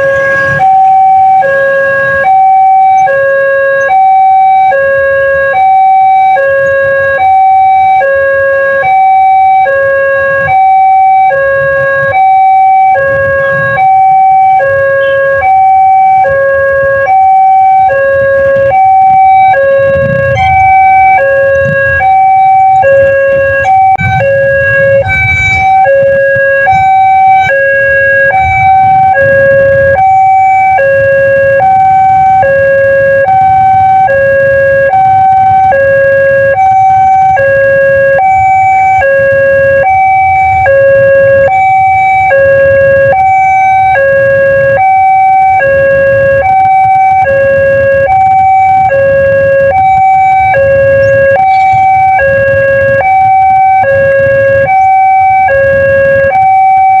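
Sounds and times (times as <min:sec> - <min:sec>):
level-crossing two-tone warning siren: 0:00.0 - 0:57.0.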